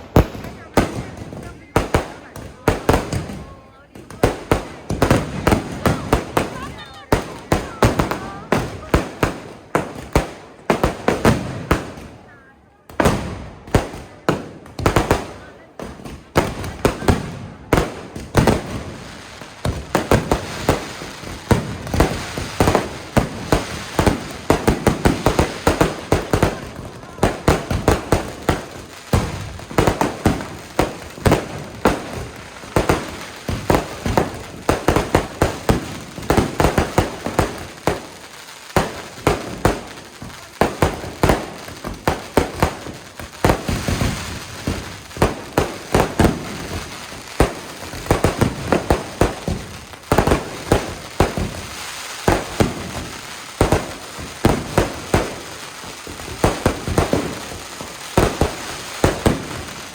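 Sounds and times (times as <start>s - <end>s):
fireworks bangs and cracks: 0.0s - 59.9s
fireworks crackling: 0.0s - 59.9s.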